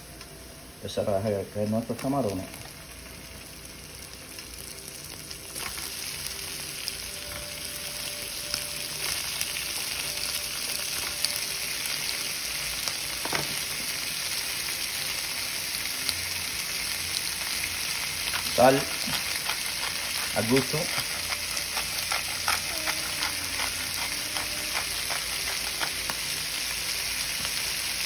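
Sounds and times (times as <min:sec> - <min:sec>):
shrimp sizzling in a pan: 0:00.4 - 0:28.0.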